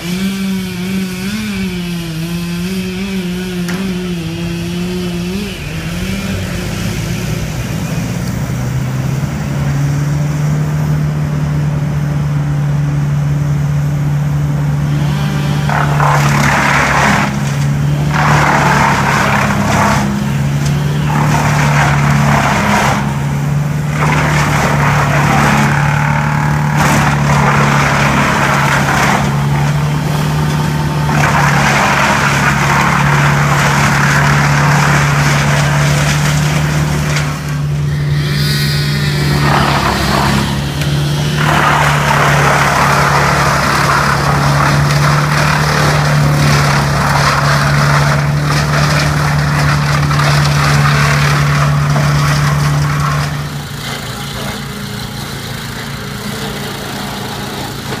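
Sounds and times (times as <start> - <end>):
branches grinding in chipper: 0.0 - 58.0
chipper engine running: 0.0 - 58.0.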